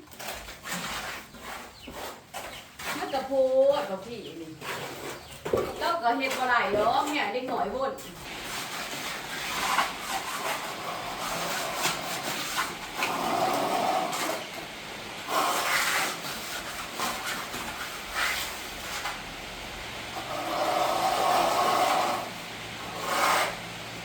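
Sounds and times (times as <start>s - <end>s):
trowel scraping wet render: 0.0s - 19.3s, 20.1s - 23.8s.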